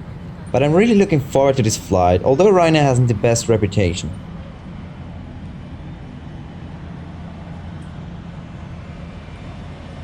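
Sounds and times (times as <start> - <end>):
airliner low drone with hiss: 0.0 - 10.0.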